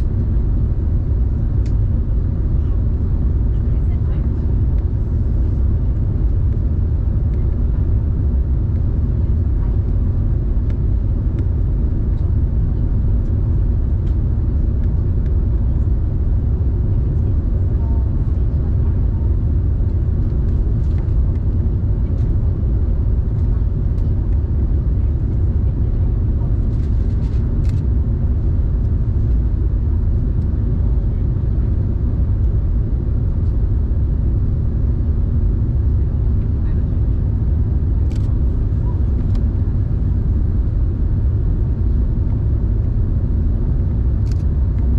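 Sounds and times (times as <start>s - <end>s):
aircraft cabin engine rumble: 0.0s - 44.9s.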